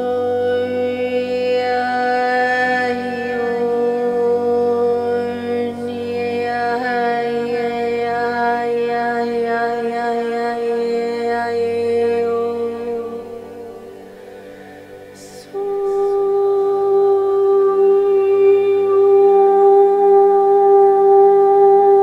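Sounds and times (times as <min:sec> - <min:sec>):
meditative drone music: 0:00.0 - 0:22.0.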